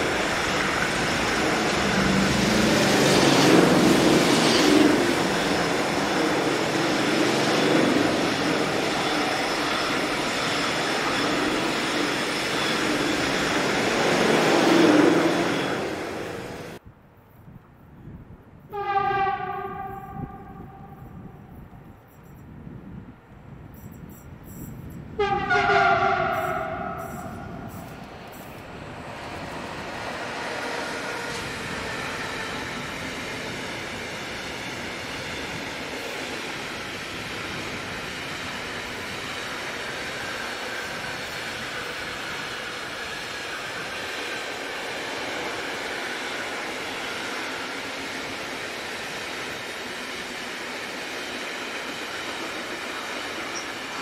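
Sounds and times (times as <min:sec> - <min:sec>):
train wheels on rails: 0:00.0 - 0:16.8, 0:23.6 - 0:54.0.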